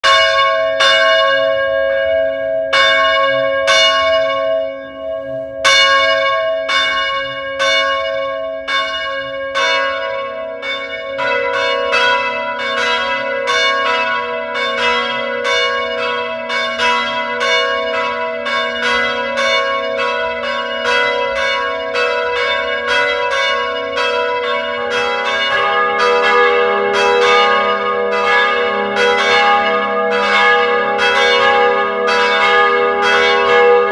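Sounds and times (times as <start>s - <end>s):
church bells pealing: 0.0s - 33.9s
deep bell: 0.0s - 33.9s.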